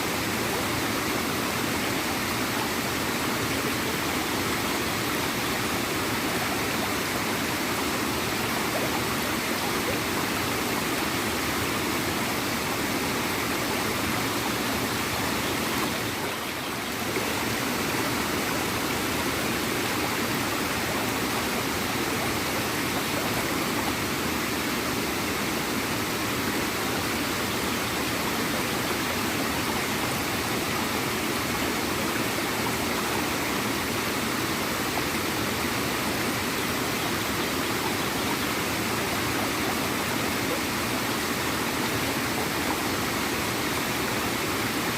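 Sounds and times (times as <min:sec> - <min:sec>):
small waterfall splashing: 0:00.0 - 0:44.9.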